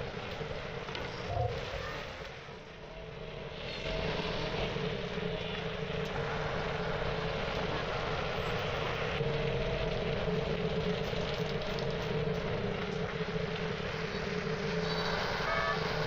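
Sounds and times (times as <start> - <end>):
machine running hum: 2.0 - 16.0.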